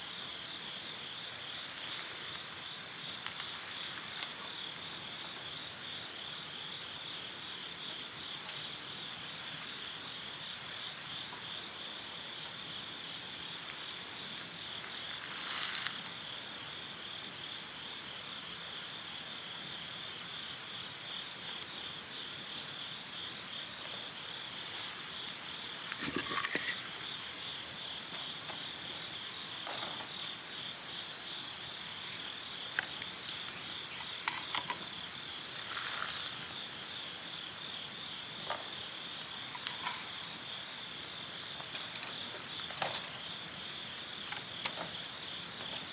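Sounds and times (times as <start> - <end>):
campfire crackles: 0.0 - 5.6, 8.3 - 17.1, 19.0 - 45.9
insects chirping: 0.0 - 45.9.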